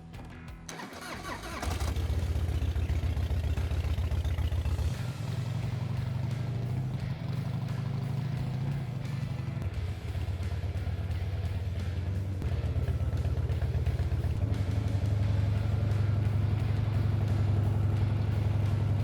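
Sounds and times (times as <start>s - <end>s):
motorcycle engine running: 0.7s - 19.0s.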